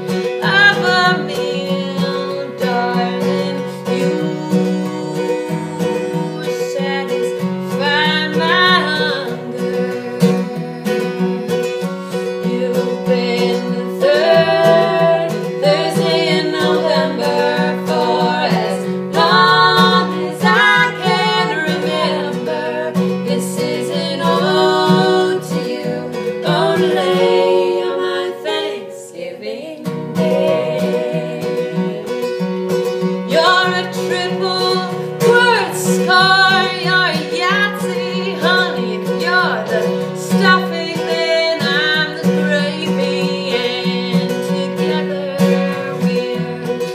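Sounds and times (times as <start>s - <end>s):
acoustic guitar strummed: 0.0s - 46.9s
two women singing: 0.0s - 46.9s.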